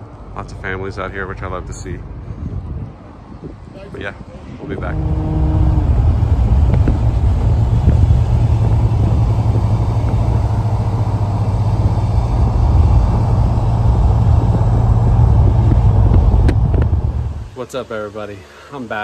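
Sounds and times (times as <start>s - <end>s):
cars cruising rumble: 0.0s - 19.0s.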